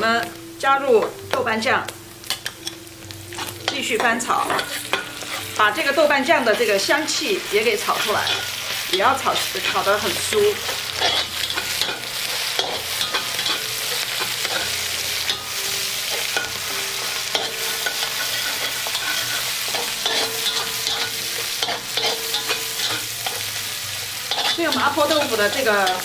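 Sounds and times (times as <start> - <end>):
meat sizzling in oil: 0.0 - 26.0
metal ladle scraping a wok: 2.3 - 26.0.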